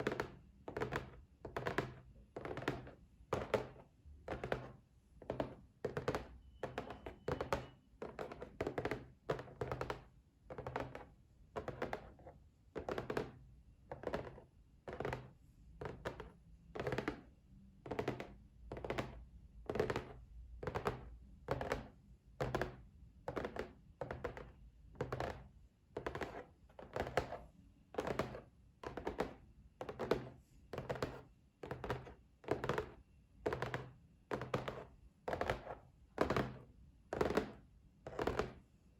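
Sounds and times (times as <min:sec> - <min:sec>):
fingers tapping on a box: 0:00.0 - 0:27.4, 0:28.0 - 0:38.6.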